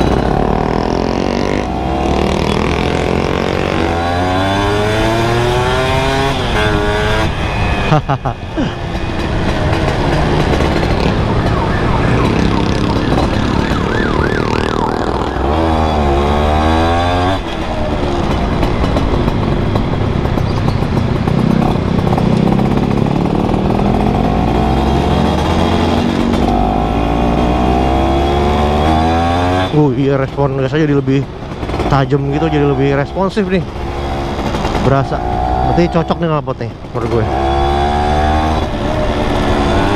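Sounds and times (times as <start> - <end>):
two-stroke motorcycle engine revving: 0.0 - 8.4, 9.0 - 39.9.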